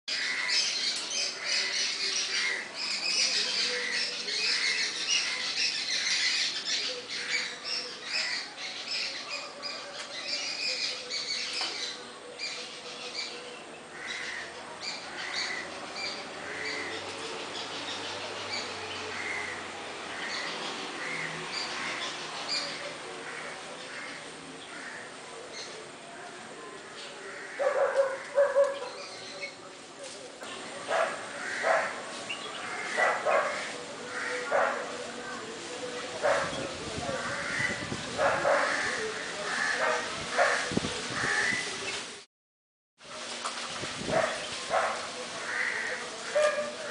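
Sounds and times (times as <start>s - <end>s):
birds chirping and squawking: 0.1s - 42.1s, 43.8s - 46.9s.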